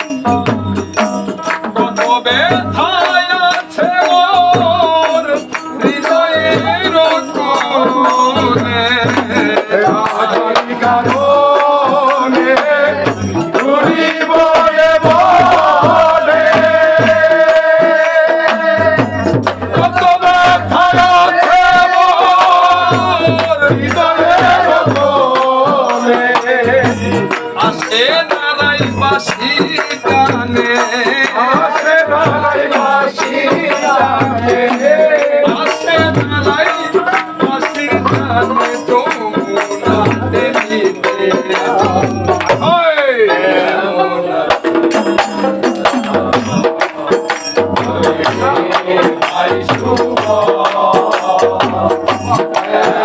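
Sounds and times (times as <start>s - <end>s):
hand percussion: 0.0s - 53.0s
low drum beat: 0.3s - 42.9s.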